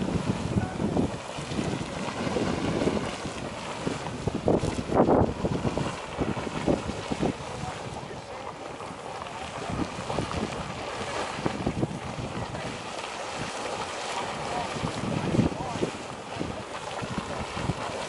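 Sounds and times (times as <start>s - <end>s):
geyser water splashing and surging: 0.0s - 18.0s
wind buffeting microphone: 0.0s - 18.0s.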